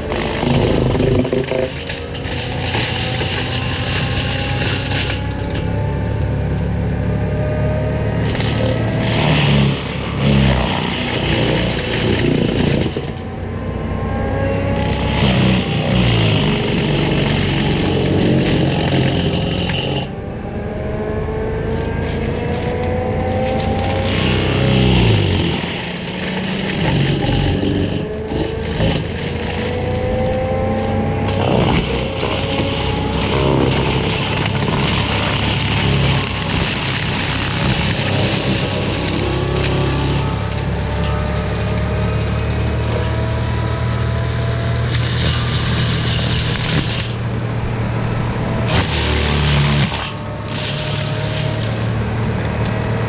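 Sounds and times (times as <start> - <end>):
forestry mulcher grinding brush: 0.0 - 53.0.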